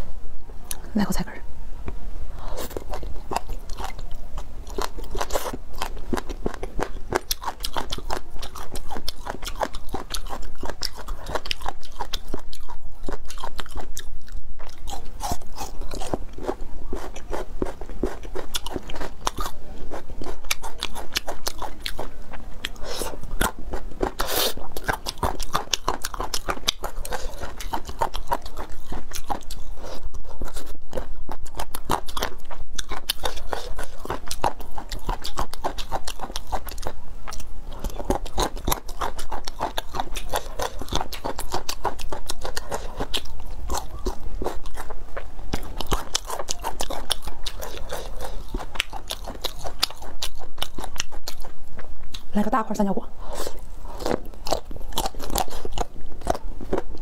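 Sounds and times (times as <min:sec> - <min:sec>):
person chewing crunchy food: 0:02.4 - 0:52.4, 0:53.2 - 0:57.0.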